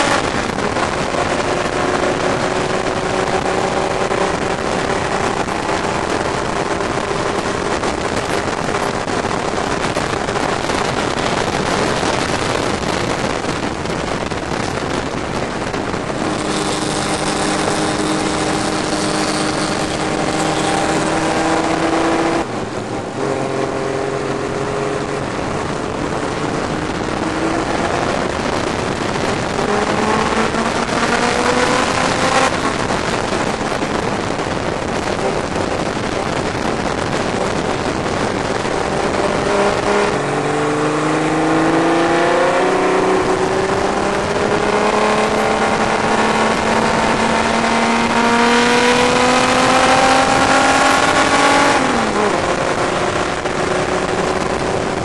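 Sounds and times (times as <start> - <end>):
race car engine accelerating: 0.0 - 55.0
wind rushing: 0.0 - 55.0.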